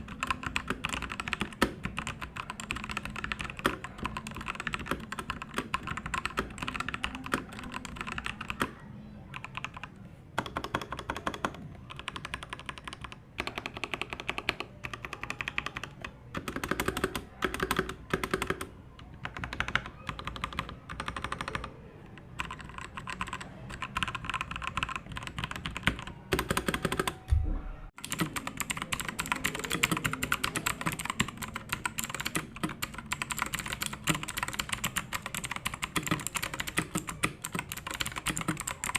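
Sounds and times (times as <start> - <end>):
mechanical keyboard typing: 0.0 - 21.8, 22.4 - 27.2, 28.0 - 38.9.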